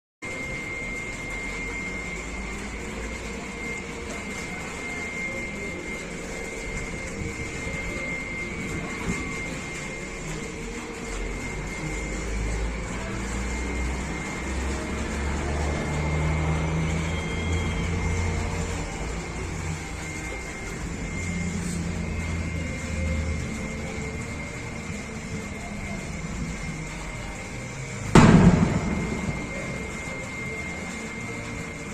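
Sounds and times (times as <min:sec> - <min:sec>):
thin steady high tone: 0:00.2 - 0:31.9.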